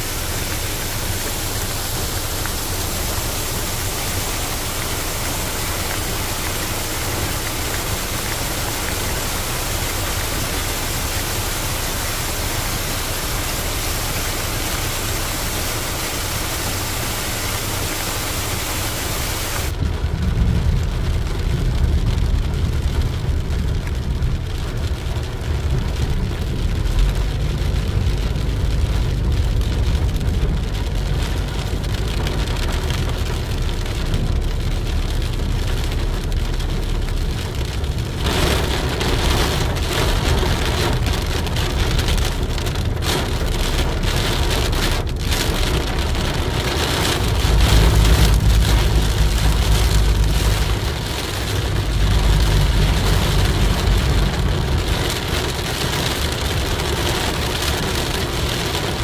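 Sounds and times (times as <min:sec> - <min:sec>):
low road rumble: 0:00.0 - 0:59.0
rain falling on a car: 0:00.0 - 0:59.0.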